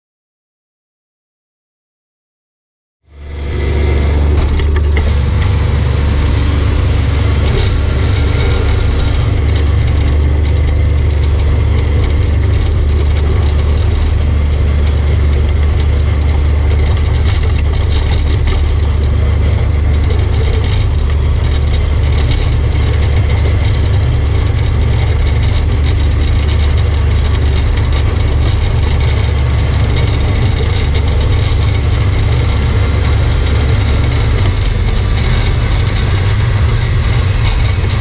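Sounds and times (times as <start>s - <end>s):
tractor diesel engine running: 3.0s - 38.0s.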